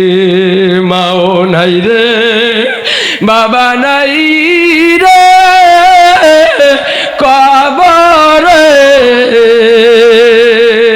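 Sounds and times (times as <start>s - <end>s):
man chanting melodically: 0.0s - 10.9s.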